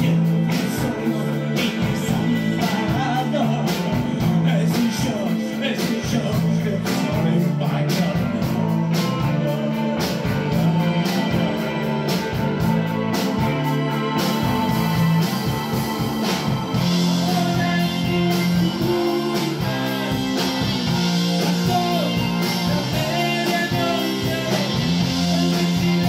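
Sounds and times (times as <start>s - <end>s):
drums steady beat: 0.0s - 26.0s
electric bass: 0.0s - 26.0s
electric guitar: 0.0s - 26.0s.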